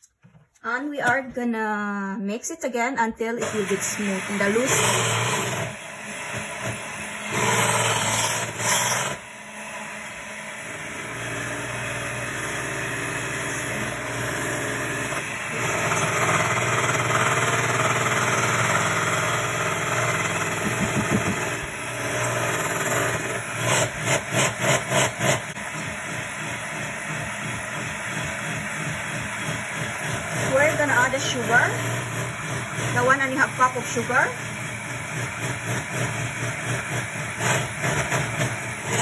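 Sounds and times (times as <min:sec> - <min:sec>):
electric hand mixer whirring: 0:03.4 - 0:39.0.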